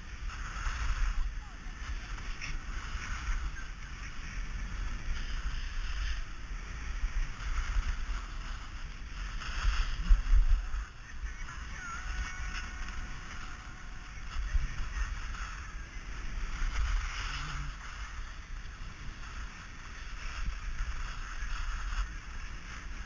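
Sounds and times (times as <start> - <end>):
skis scraping over snow: 0.0 - 23.0
wind rumbling on microphone: 0.0 - 23.0.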